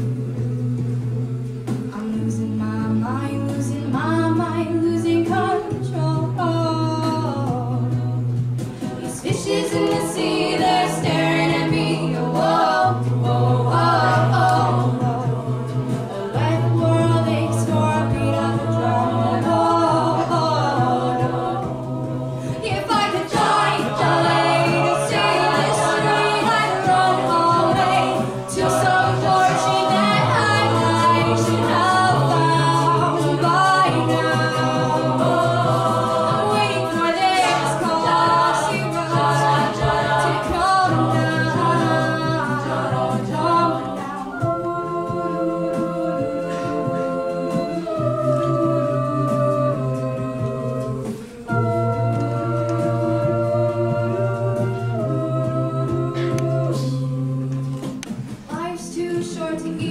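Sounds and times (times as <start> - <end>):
vocal group singing in harmony: 0.0 - 59.9.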